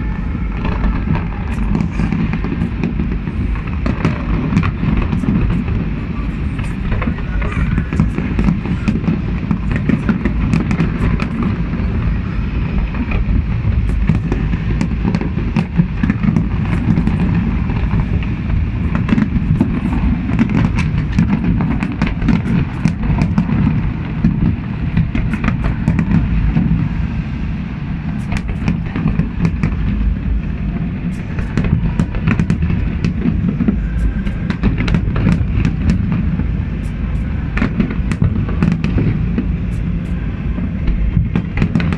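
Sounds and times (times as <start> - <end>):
fireworks rumbling and crackling: 0.0 - 41.9.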